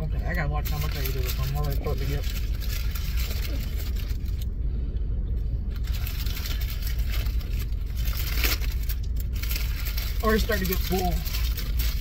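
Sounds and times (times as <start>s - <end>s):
car engine idling: 0.0s - 12.0s
paper wrapper crinkling: 0.5s - 4.5s, 5.7s - 12.0s.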